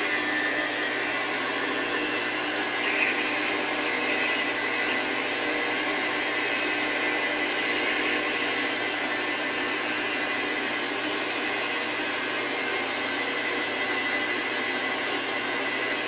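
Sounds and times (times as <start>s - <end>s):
metal lathe drilling whir: 0.0s - 15.9s.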